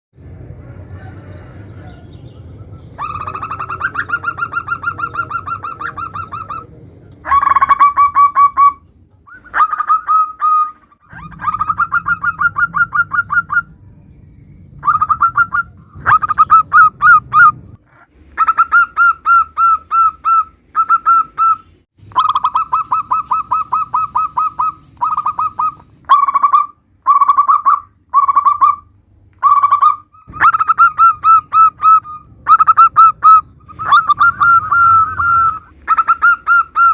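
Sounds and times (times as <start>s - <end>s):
doves cooing: 0.7s - 13.8s, 14.6s - 36.9s.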